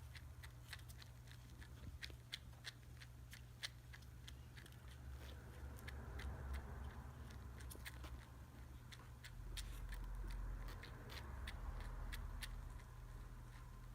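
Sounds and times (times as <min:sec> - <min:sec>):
kitten suckling from bottle: 0:00.0 - 0:13.9
low steady rumble: 0:00.0 - 0:13.9.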